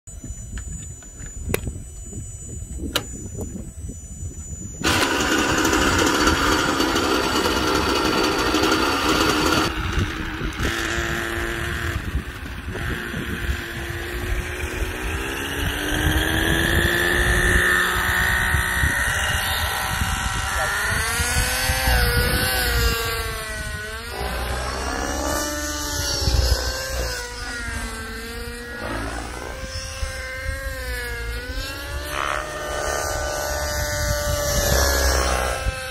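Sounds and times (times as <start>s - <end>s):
model helicopter engine running: 0.1s - 35.9s.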